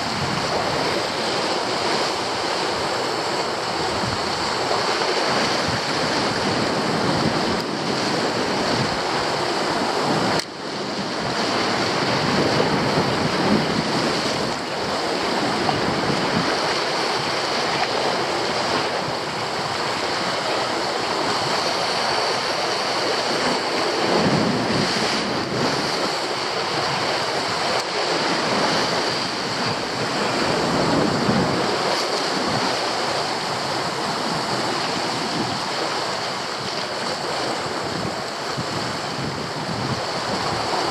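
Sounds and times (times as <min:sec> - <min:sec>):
waves breaking over rocks: 0:00.0 - 0:40.9
wind buffeting microphone: 0:00.0 - 0:40.9.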